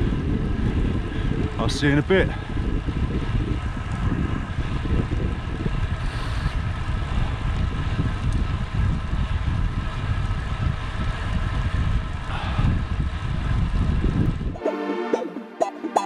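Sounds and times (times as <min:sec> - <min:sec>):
tyres rumbling on tarmac: 0:00.0 - 0:14.6
wind buffeting microphone: 0:00.0 - 0:14.6.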